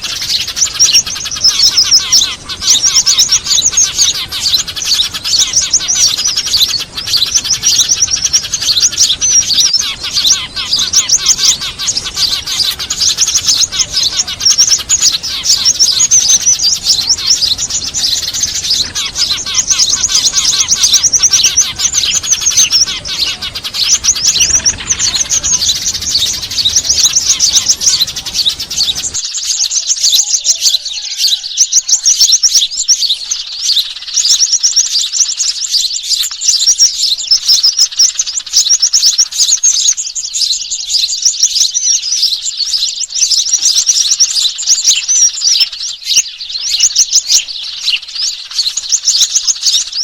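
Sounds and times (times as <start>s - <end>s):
flock of small birds chattering: 0.0s - 50.0s.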